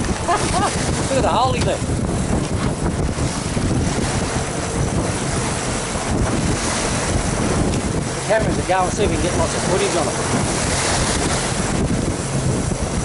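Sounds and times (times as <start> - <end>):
water splashing along boat: 0.0 - 13.0
wind buffeting microphone: 0.0 - 13.0.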